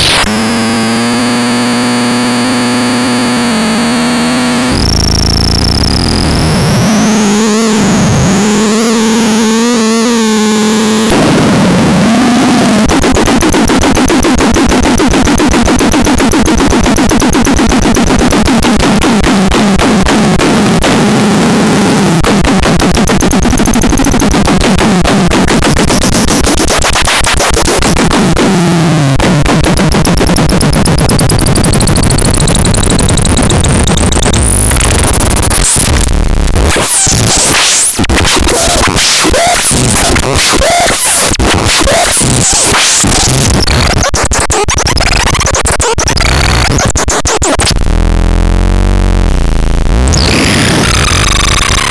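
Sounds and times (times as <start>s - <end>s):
harsh electronic buzzing noise: 0.0s - 51.9s.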